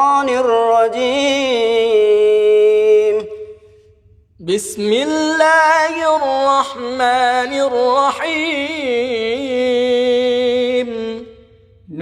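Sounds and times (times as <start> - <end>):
person reciting melodically: 0.0 - 3.7, 4.4 - 12.0.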